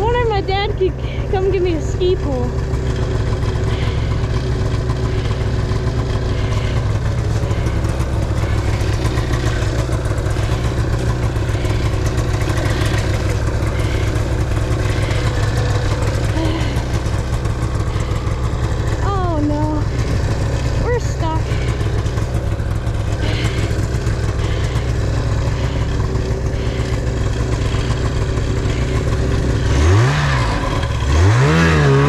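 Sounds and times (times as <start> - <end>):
snowmobile engine idling: 0.0 - 32.0.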